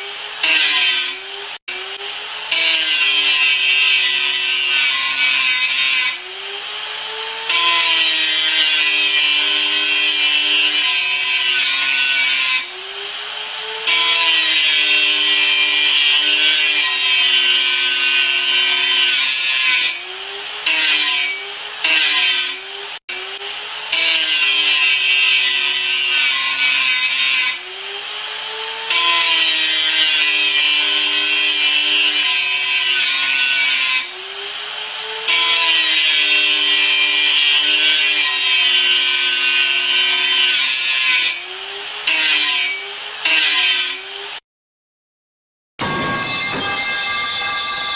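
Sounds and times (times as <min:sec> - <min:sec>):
grinder motor whine: 0:00.0 - 0:42.1.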